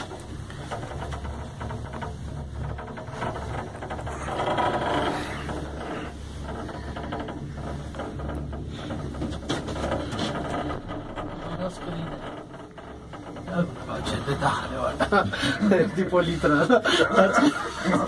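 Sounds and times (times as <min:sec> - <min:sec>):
gondola cabin humming: 0:00.0 - 0:18.0
mechanical rattling and clicking: 0:00.0 - 0:18.0.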